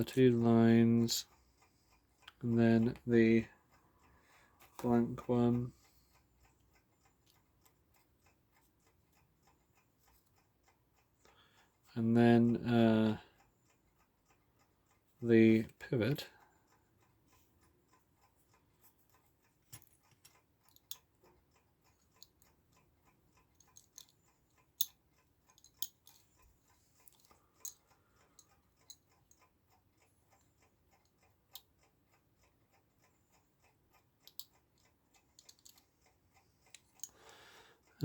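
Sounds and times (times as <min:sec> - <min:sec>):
clock ticking: 0:00.0 - 0:38.0
small clock parts clicking: 0:00.0 - 0:38.0.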